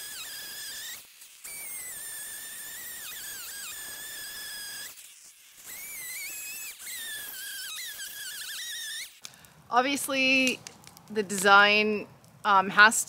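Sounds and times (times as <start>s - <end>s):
chainsaw cutting wood: 0.0s - 12.3s.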